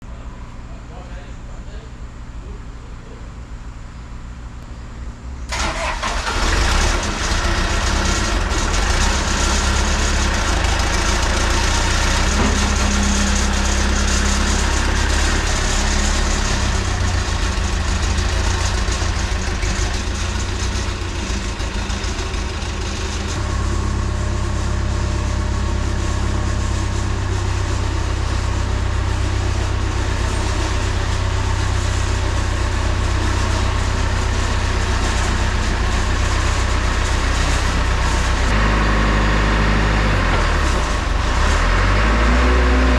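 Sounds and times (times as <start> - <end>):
diesel engine starting and running: 0.0 - 42.9.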